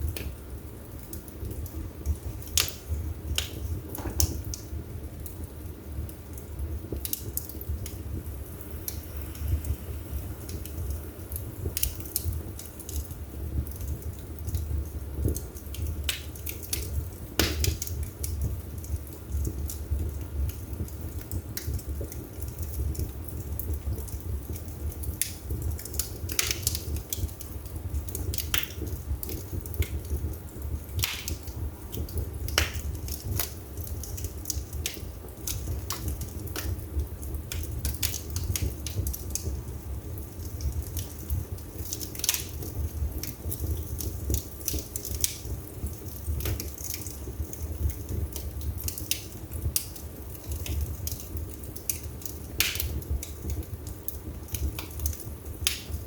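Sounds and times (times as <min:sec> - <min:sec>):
burning logs crackling and popping: 0:00.0 - 0:56.0
low rumble of flames: 0:00.0 - 0:56.0.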